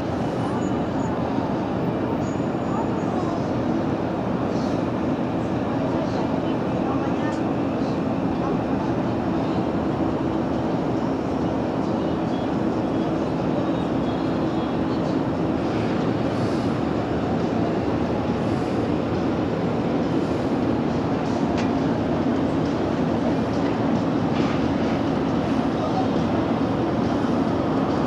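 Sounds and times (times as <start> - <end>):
steady low rumbling hum: 0.0 - 28.0.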